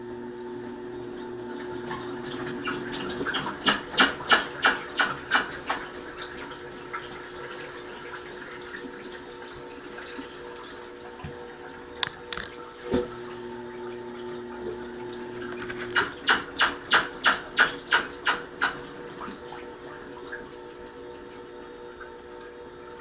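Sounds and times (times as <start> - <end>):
washing machine motor hum: 0.0 - 23.0
water sloshing: 0.8 - 23.0.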